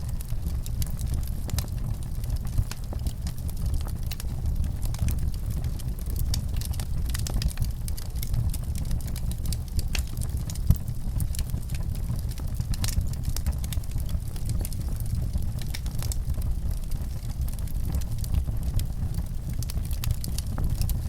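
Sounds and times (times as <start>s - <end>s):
fire pops and snaps: 0.0s - 21.0s
low fire rumble: 0.0s - 21.0s
wood fire crackling: 0.0s - 21.0s.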